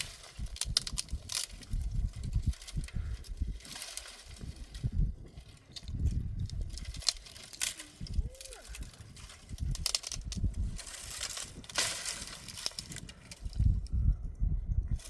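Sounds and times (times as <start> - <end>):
rustling handling noise: 0.0 - 13.9.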